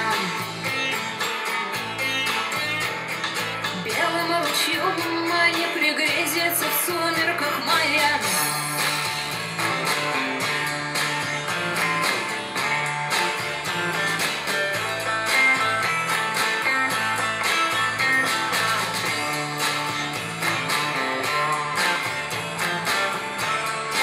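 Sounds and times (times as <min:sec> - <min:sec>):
instrumental guitar music on speakers: 0:00.0 - 0:24.0.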